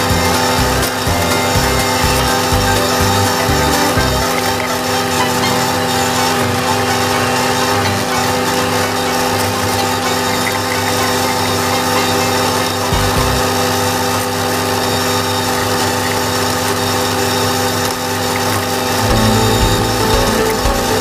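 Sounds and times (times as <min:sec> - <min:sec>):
flail mower rotor whirring: 0:00.0 - 0:21.0
tractor diesel engine drone: 0:00.0 - 0:21.0.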